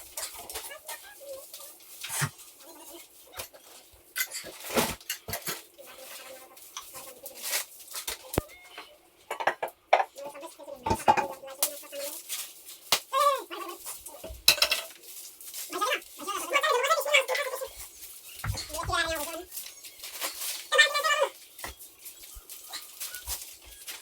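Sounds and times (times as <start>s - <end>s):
metal pots and utensils clinking: 0.0s - 10.2s, 10.8s - 24.0s.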